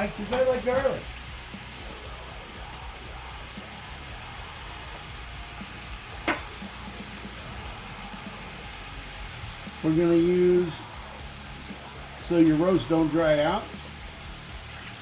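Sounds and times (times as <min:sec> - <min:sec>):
meat sizzling in a pot: 0:00.0 - 0:15.0.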